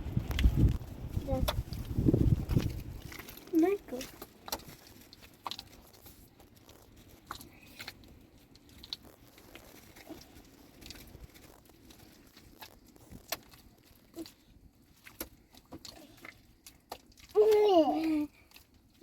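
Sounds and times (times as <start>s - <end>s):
faint crunching and clicking: 0.0s - 19.0s.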